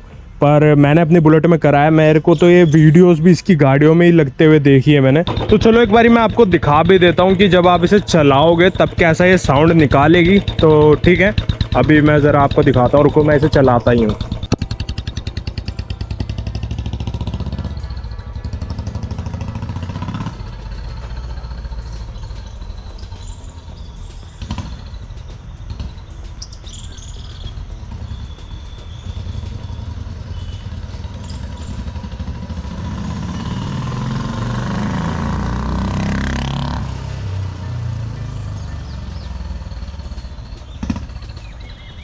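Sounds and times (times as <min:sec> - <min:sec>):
motorcycle engine idling: 0:04.8 - 0:42.0
exhaust whistle: 0:04.9 - 0:42.0.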